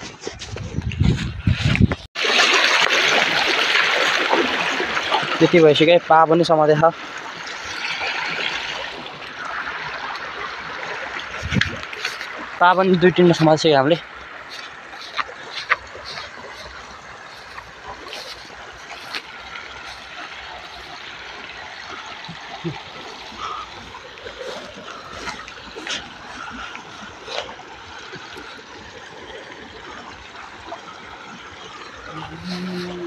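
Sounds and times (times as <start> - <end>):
river water trickling and splashing: 2.2 - 33.0.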